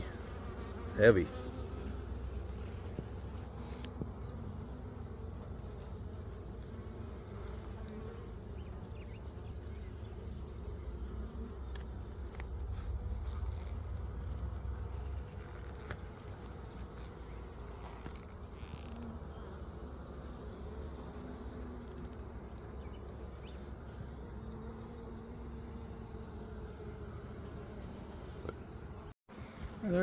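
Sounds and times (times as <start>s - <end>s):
honey bees buzzing: 0.0s - 30.0s
single bee droning past: 0.0s - 30.0s.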